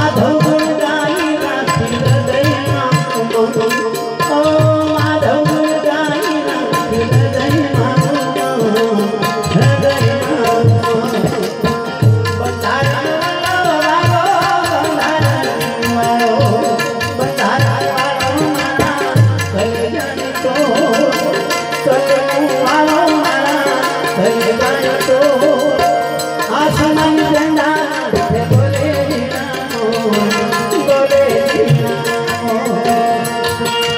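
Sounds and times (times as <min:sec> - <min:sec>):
harmonium melody: 0:00.0 - 0:33.9
tabla strokes: 0:00.0 - 0:33.9.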